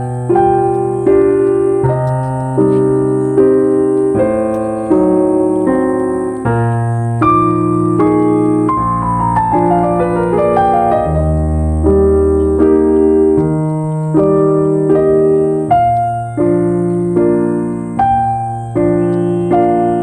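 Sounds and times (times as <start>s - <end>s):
falling piano notes: 0.0s - 20.0s
slow piano chords: 0.0s - 20.0s.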